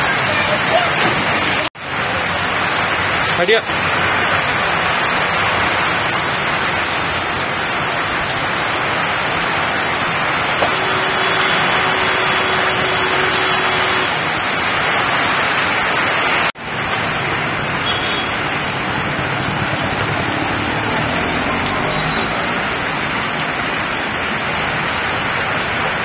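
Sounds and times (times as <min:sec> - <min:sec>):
heavy rain on a road: 0:00.0 - 0:26.0.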